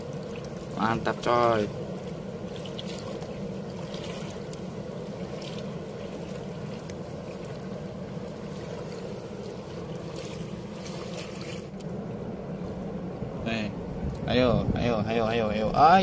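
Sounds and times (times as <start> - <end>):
water washing past hull: 0.0 - 13.4
boat motor droning: 0.0 - 16.0.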